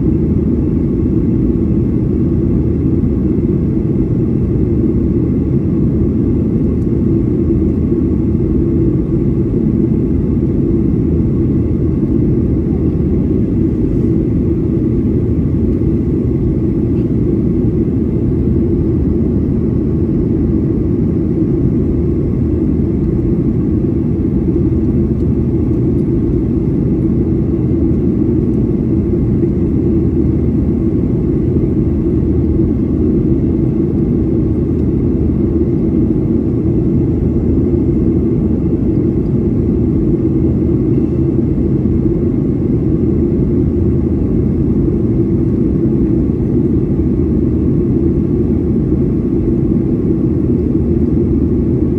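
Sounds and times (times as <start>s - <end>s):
airplane cabin engine noise: 0.0s - 51.9s.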